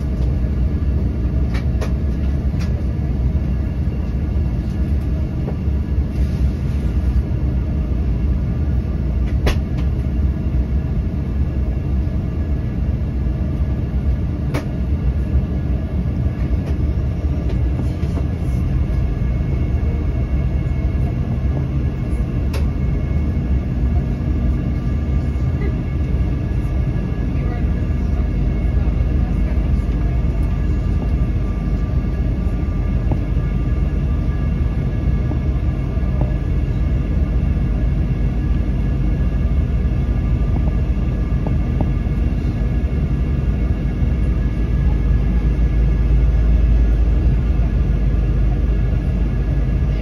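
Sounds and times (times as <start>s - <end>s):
airliner cabin rumble: 0.0s - 50.0s
faint steady whine: 0.0s - 50.0s.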